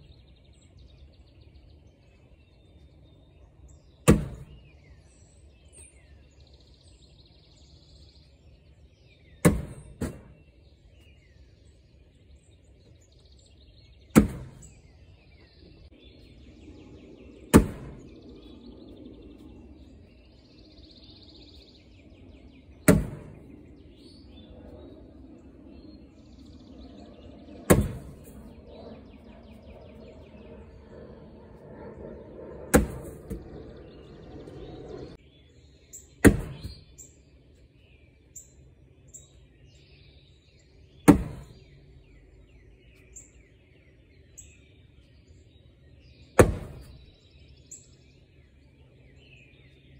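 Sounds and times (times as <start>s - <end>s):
birds chirping faintly: 0.0s - 49.9s.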